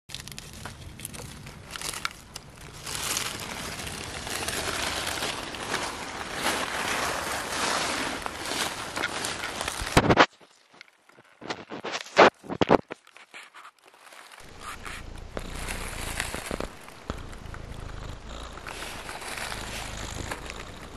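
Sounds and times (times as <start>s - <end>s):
dry leaves crunching underfoot: 0.1s - 10.5s, 13.2s - 20.9s.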